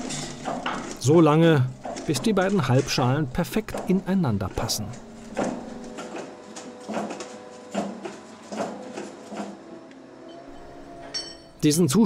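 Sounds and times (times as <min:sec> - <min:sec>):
hydraulic press strokes: 0:01.7 - 0:11.6.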